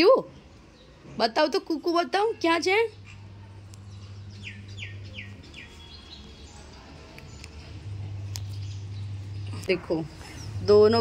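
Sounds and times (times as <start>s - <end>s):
steady low hum: 1.8s - 11.0s.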